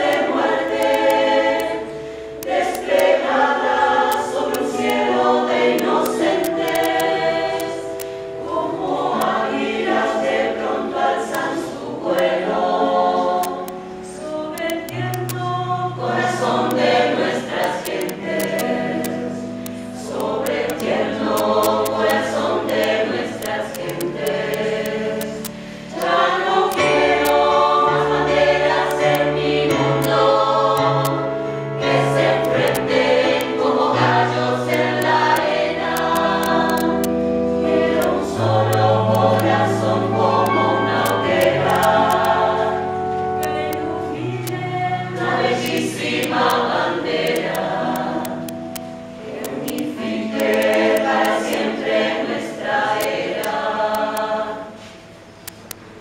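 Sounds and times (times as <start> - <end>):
mixed choir singing: 0.0 - 55.1.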